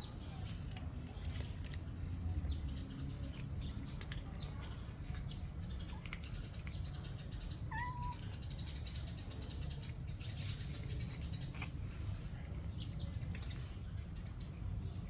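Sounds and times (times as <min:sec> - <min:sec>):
cats eating crunching: 0:00.0 - 0:15.0.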